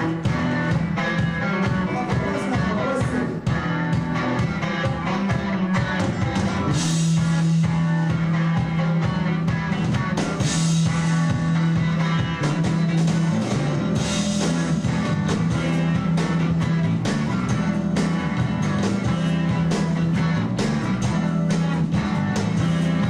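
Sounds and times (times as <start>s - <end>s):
drum hits and cymbals: 0.0s - 23.0s
rock band playing: 0.0s - 23.0s.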